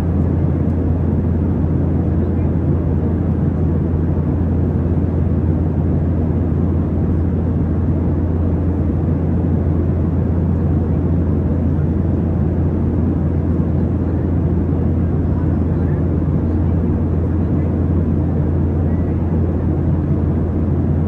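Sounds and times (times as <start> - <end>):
airplane engines rumbling: 0.0 - 21.0.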